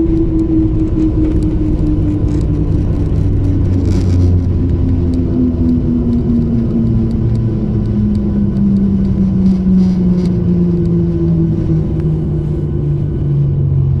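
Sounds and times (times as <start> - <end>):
jet engines spooling down: 0.0 - 14.0.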